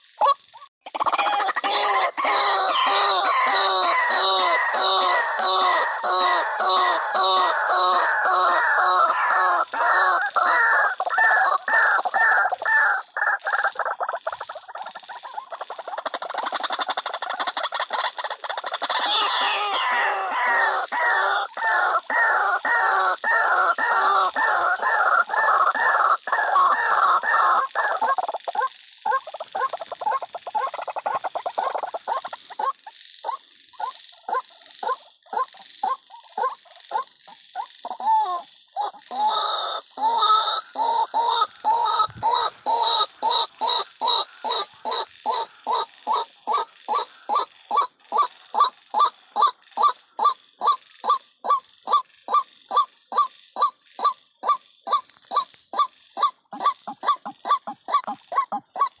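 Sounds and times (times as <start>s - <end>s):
bird croaking calls: 0.0s - 59.0s.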